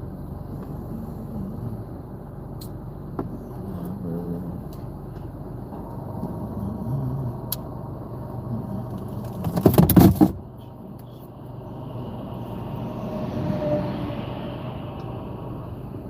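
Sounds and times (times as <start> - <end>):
vehicle rumbling on highway: 0.0 - 16.0.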